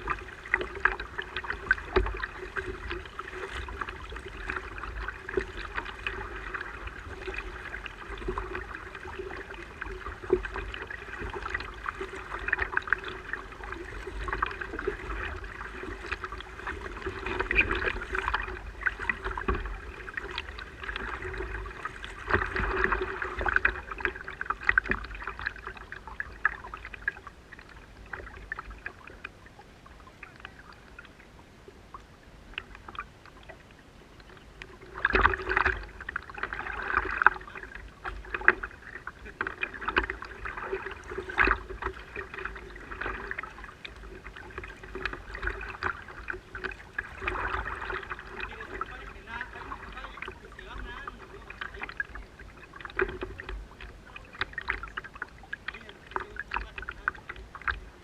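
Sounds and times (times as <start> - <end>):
faint steady hum: 0.0 - 58.0
water splashing against hull: 0.0 - 58.0.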